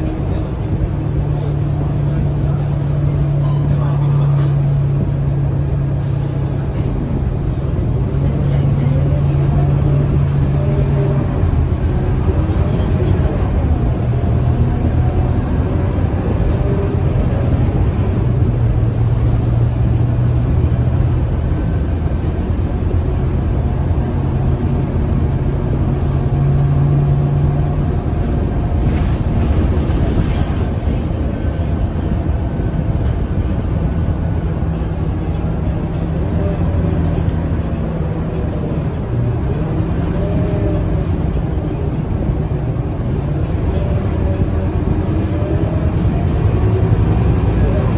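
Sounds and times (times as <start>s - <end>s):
bus diesel engine droning: 0.0s - 47.9s.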